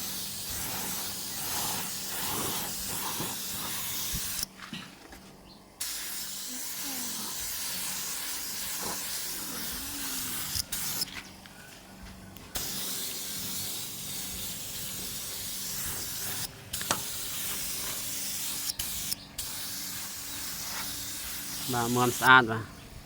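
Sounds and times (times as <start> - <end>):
paint spray gun hissing: 0.0 - 4.5, 5.8 - 11.1, 12.5 - 22.6.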